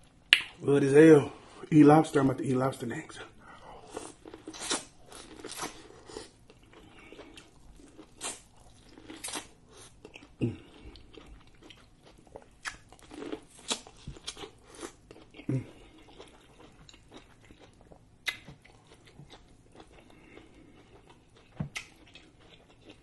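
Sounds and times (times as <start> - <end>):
corn being bitten and chewed: 3.9 - 23.0.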